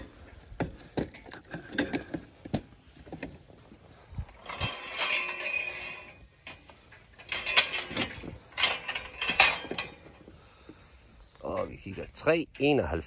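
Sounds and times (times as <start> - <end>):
metal hurdles clanking and rattling: 0.0 - 13.0.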